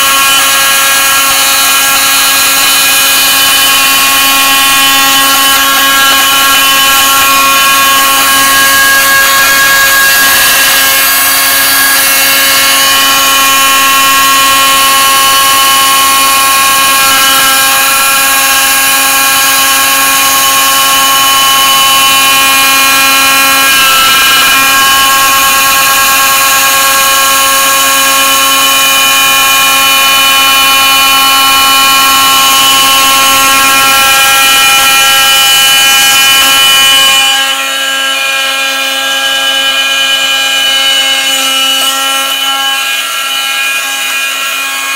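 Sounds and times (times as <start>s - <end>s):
milling machine spindle whining: 0.0s - 44.9s.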